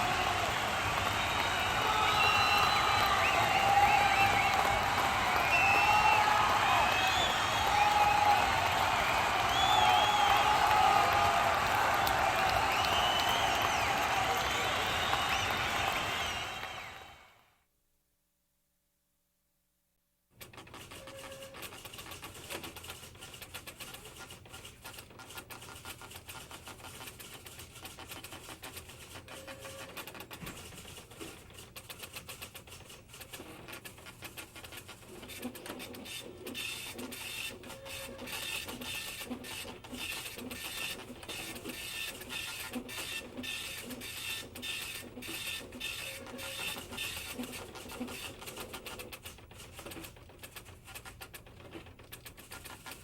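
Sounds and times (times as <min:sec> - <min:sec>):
teletype machines clattering: 0:00.0 - 0:16.8, 0:20.4 - 0:53.0.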